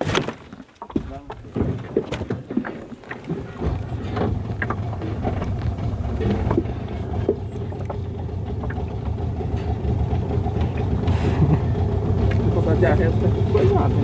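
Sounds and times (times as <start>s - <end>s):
outboard motor rumbling: 0.0s - 14.0s.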